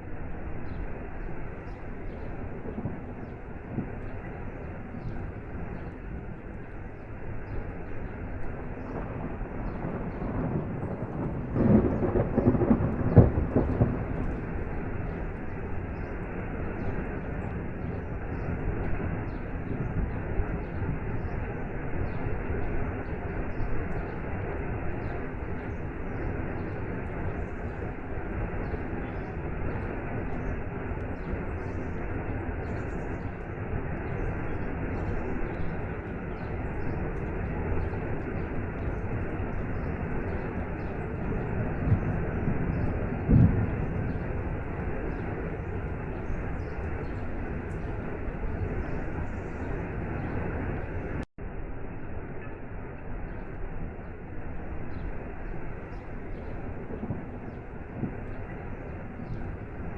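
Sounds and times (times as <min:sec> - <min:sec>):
low rumbling surges: 0:00.0 - 0:59.9
rain: 0:00.0 - 0:59.9.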